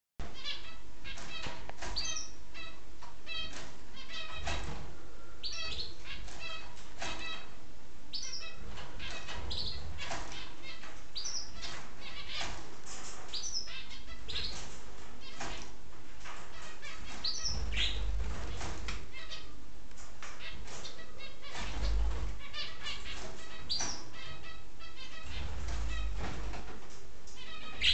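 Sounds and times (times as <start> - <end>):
budgerigars chirping and whistling: 0.2 - 19.6, 20.2 - 27.9.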